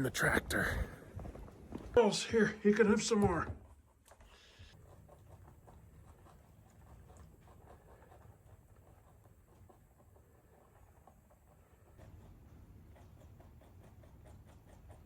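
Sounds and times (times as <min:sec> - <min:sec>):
rabbits nibbling carrots: 0:00.0 - 0:15.0.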